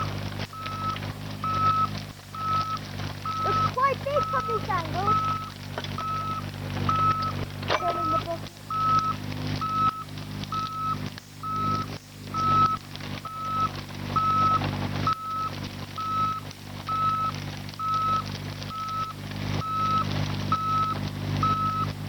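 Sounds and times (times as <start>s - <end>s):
diesel engine running: 0.0s - 22.0s
excavator travel alarm beeping: 0.0s - 22.0s.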